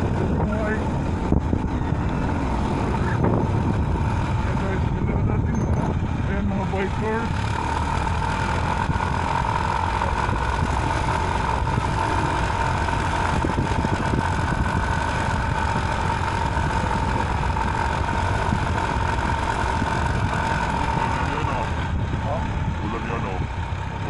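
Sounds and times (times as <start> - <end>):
motorcycle engine running: 0.0 - 24.0
steady whine: 0.0 - 24.0.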